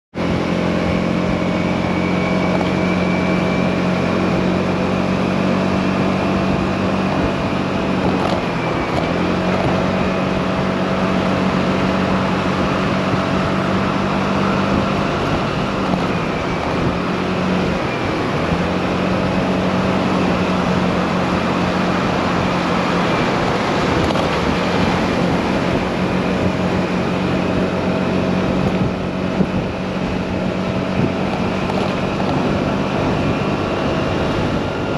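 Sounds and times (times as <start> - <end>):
motorcycle engine cruising: 0.1 - 34.9
wind rush on microphone: 0.7 - 34.9.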